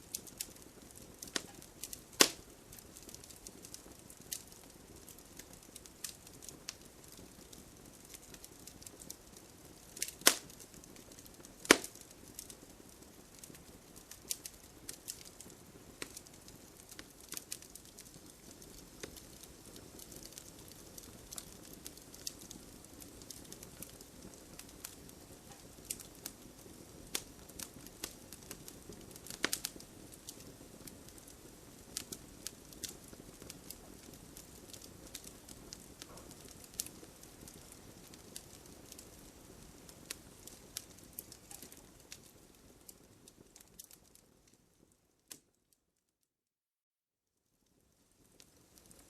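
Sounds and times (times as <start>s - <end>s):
campfire crackling and popping: 0.0s - 45.7s, 47.7s - 49.0s.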